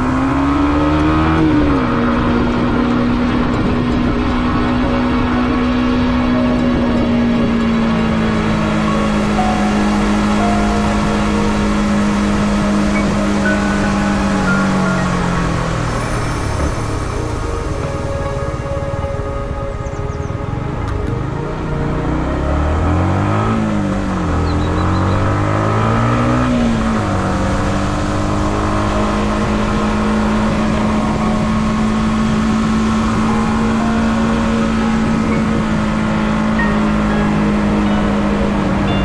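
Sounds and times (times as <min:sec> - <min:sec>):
motorcycle engine revving: 0:00.0 - 0:19.2, 0:19.8 - 0:39.0.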